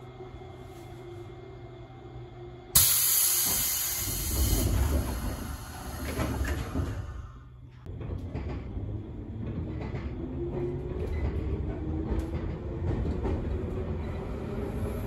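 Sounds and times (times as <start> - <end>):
train motors and wheels rumbling: 0.0 - 15.0.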